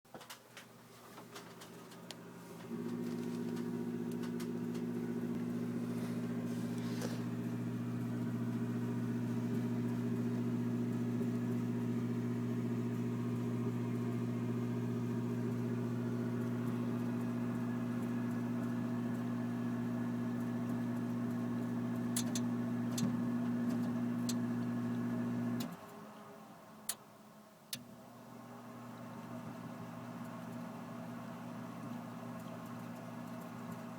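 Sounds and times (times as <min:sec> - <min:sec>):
furnace humming: 0:00.1 - 0:25.8, 0:27.8 - 0:33.9.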